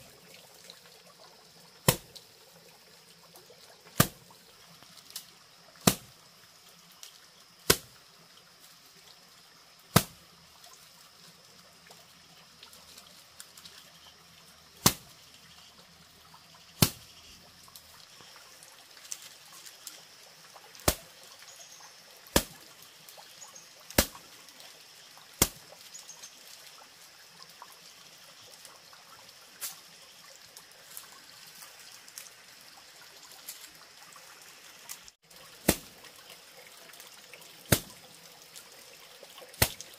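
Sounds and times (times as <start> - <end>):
faint water trickle: 0.0 - 39.9.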